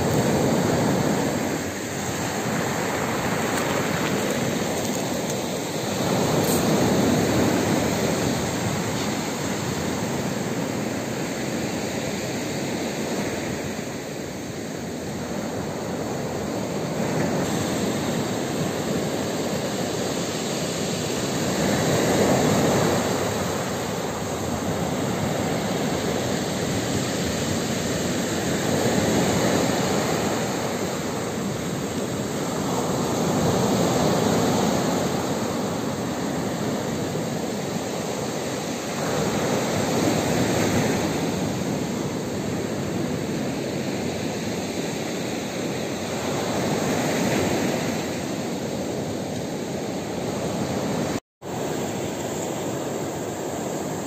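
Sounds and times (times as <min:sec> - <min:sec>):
waves breaking on pebble beach: 0:00.0 - 0:54.0.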